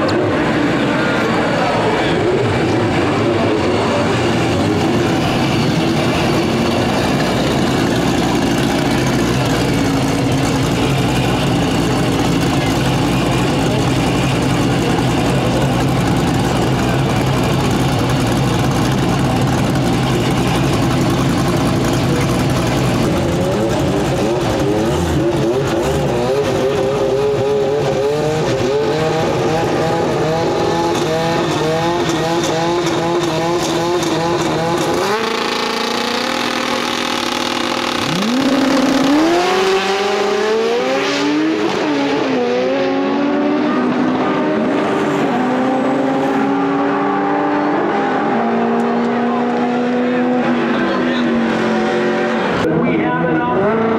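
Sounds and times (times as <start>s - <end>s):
drag racing engines revving: 0.0s - 53.9s.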